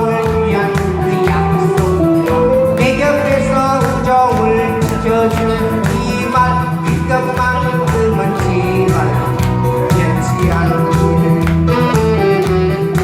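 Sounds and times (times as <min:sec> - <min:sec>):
fast disco music: 0:00.0 - 0:13.0.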